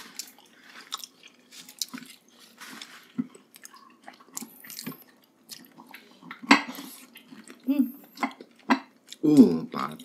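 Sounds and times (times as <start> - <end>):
wet chewing and biting: 0.0 - 10.0.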